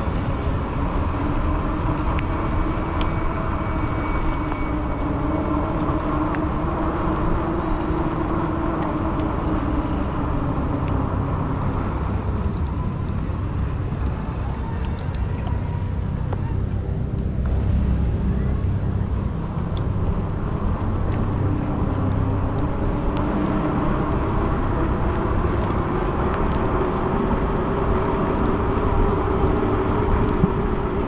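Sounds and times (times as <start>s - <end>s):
engine drone: 0.0s - 31.0s
low rumble: 0.0s - 31.0s.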